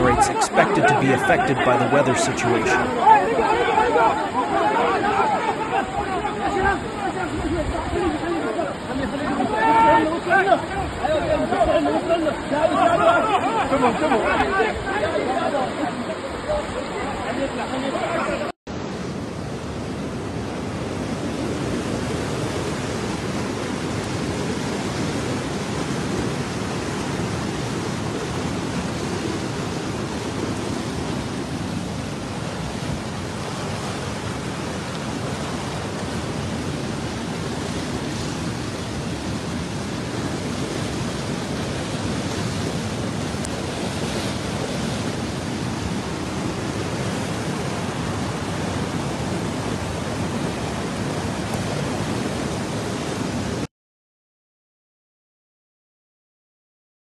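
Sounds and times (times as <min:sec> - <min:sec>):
floodwater rushing: 0:00.0 - 0:53.7.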